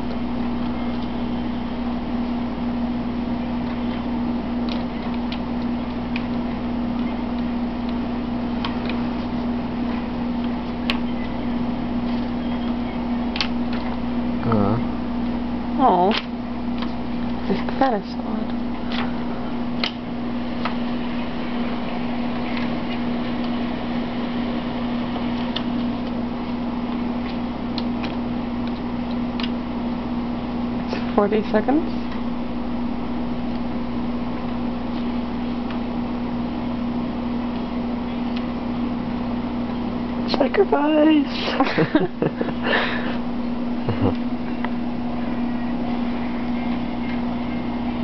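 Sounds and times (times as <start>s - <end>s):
electric fan humming: 0.0s - 48.0s.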